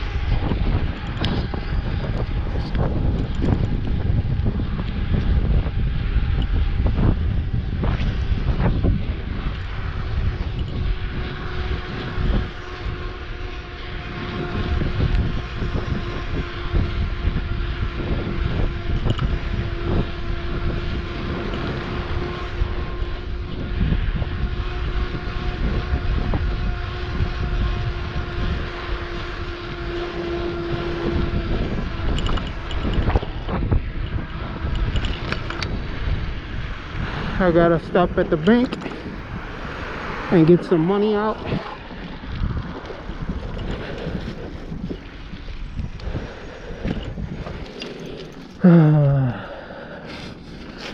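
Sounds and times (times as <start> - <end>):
electric bike motor whining: 0.0 - 50.9
low road rumble: 0.0 - 50.9
wind buffeting microphone: 0.0 - 50.9.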